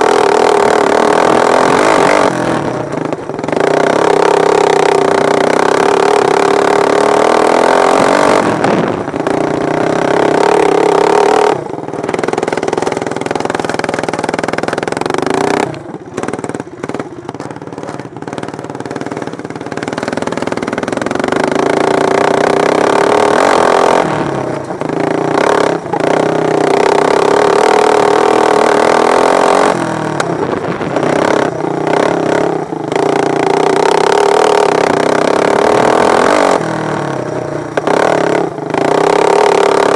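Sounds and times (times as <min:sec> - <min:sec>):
lawn mower engines racing: 0:00.0 - 0:39.9.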